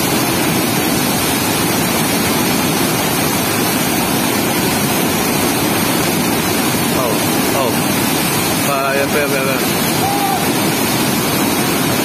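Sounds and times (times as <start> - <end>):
whitewater rushing through sluice gate: 0.0 - 12.0.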